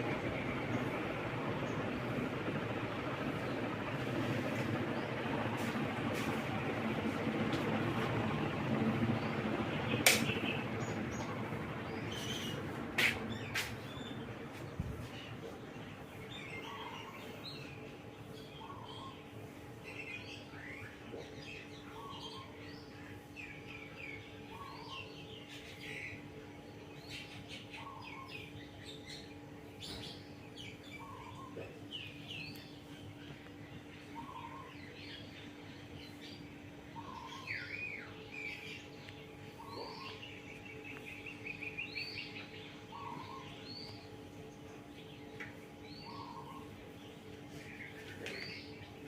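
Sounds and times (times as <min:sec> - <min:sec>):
birds chirping: 0:00.0 - 0:49.0
ceiling fan motor hum: 0:00.0 - 0:49.0.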